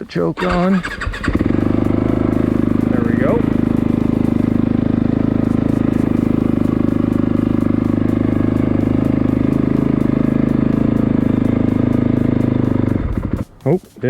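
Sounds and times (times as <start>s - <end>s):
motorcycle engine idling: 0.0s - 13.7s.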